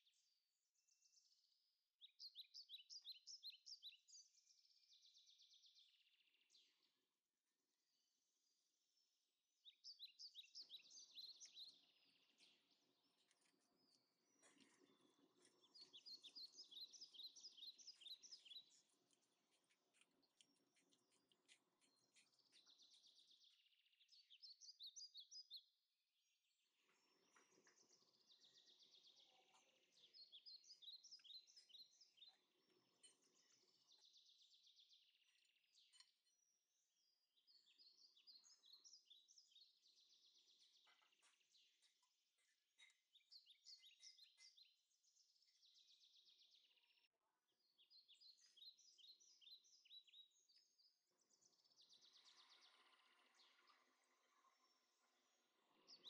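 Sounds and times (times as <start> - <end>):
faint birdsong chirps: 0.0 - 56.0.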